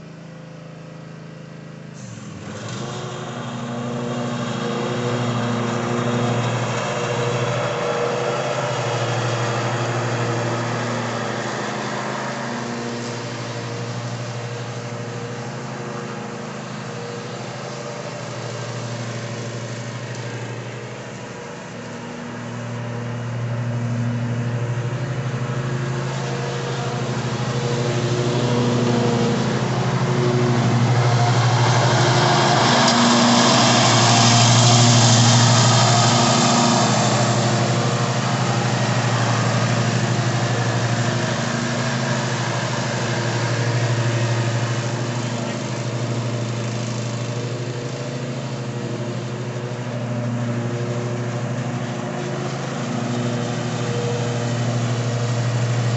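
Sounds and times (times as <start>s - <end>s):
riding mower cutting grass: 0.0s - 55.9s.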